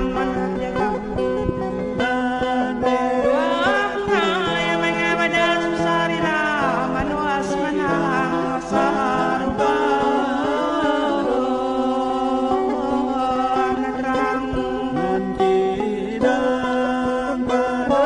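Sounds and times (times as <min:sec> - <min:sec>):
held musical accompaniment: 0:00.0 - 0:18.0
person singing with sliding pitches: 0:00.0 - 0:18.0.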